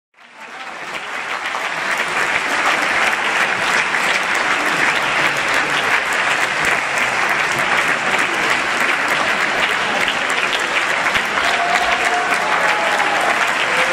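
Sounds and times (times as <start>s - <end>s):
audience applauding: 0.2s - 13.9s.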